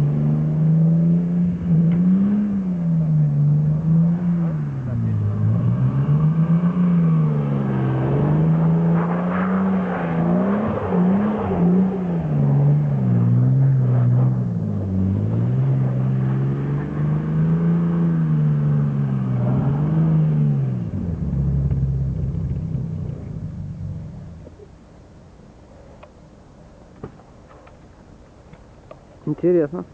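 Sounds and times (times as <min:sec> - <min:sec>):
low rumble: 0:00.0 - 0:25.2.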